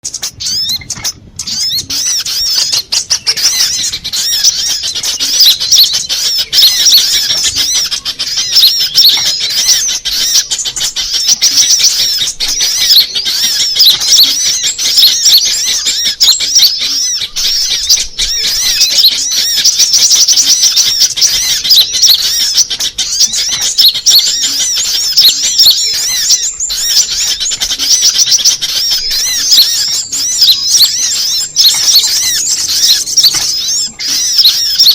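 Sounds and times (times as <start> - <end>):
birds twittering and trilling: 0.0 - 34.9.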